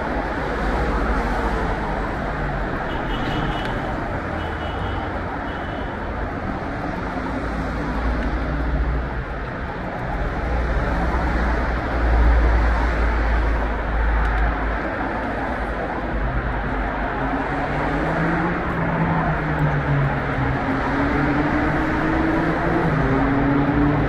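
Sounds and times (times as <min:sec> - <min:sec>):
cars passing: 0:00.0 - 0:24.0.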